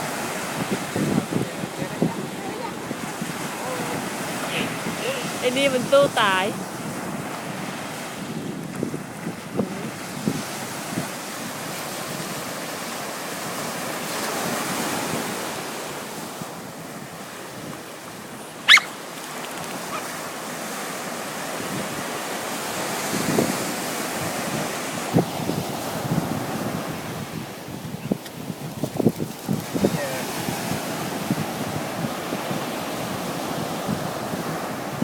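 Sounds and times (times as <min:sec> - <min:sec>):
sea surf washing: 0:00.0 - 0:35.0
wind buffeting microphone: 0:00.0 - 0:35.0.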